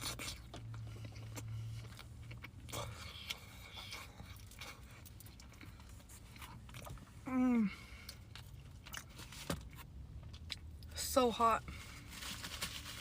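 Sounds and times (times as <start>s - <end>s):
crunches and wet mouth sounds: 0.0s - 11.0s
person chewing pizza: 0.0s - 11.1s.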